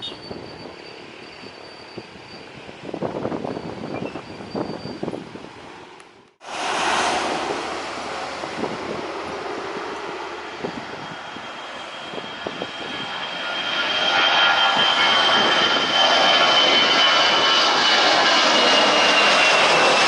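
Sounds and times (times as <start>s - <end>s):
jet engines roaring: 0.0s - 20.0s
gusty wind buffeting microphone: 0.2s - 20.0s.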